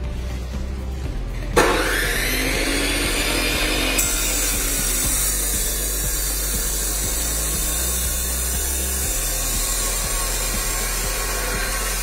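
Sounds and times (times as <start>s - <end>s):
background music with a beat: 0.0s - 12.0s
cut-off saw grinding steel: 1.6s - 12.0s.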